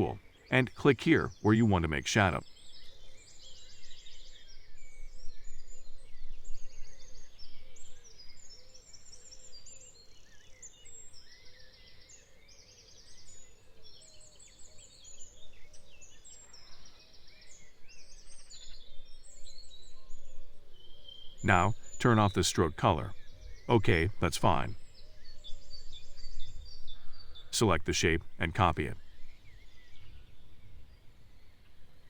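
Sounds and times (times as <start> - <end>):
birds chirping and trilling: 0.0 - 32.0
faint outdoor background: 0.0 - 32.0.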